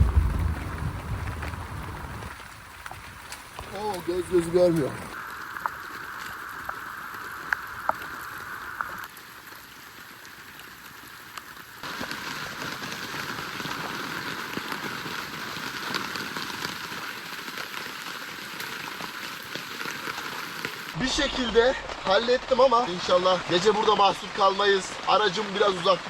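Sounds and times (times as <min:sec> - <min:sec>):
rain pattering on plastic tarp: 0:00.0 - 0:26.0.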